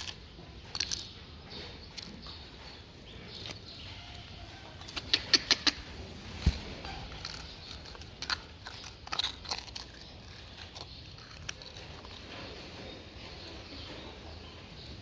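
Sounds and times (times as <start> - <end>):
dog chewing and crunching food: 0.0 - 15.0.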